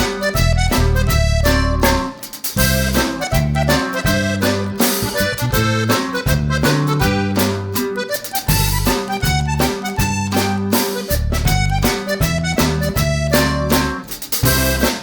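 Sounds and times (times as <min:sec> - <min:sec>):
repeating bass line: 0:00.0 - 0:15.0
upbeat accordion music: 0:00.0 - 0:15.0.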